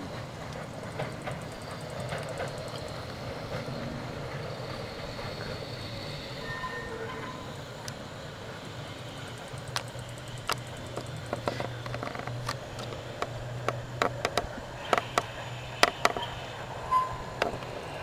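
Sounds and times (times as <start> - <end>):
trolley car humming: 0.0 - 18.0
wheels clicking over rail joints: 0.0 - 18.0.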